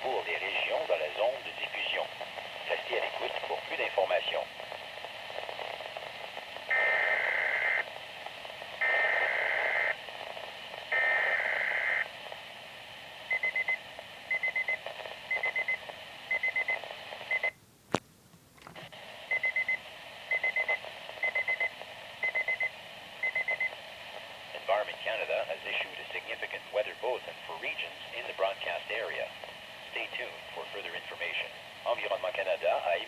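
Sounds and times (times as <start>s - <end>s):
radio hiss: 0.0s - 17.5s, 18.7s - 33.0s.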